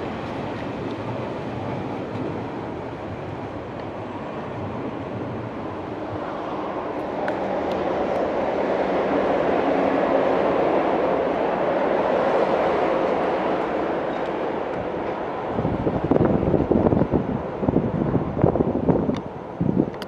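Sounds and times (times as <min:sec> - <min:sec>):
electric train passing on rails: 0:00.0 - 0:20.0.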